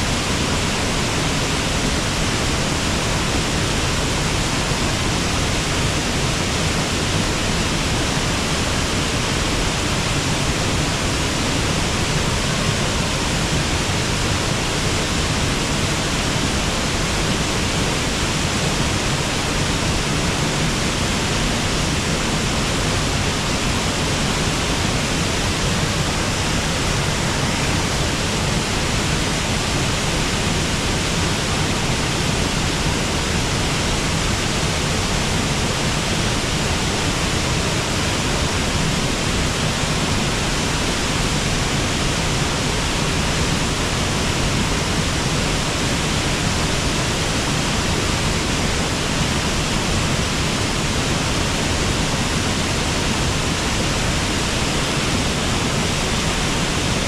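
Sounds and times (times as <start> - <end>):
waterfall water rushing: 0.0 - 57.0.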